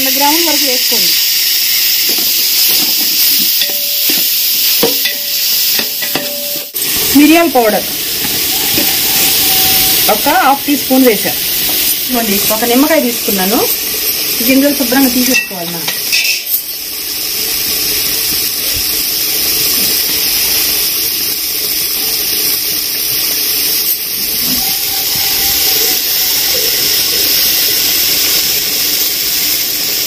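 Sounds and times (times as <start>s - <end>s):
pot sizzling: 0.0s - 30.0s.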